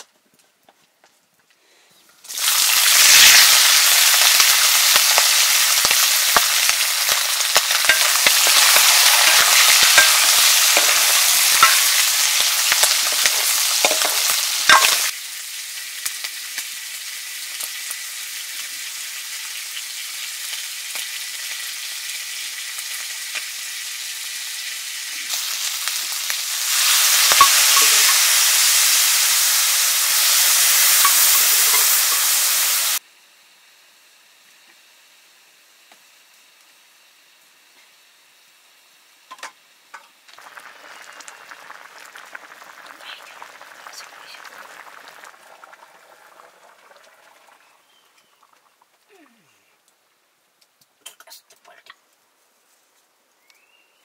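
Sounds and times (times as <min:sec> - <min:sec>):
food sizzling in hot oil: 0:02.2 - 0:49.1.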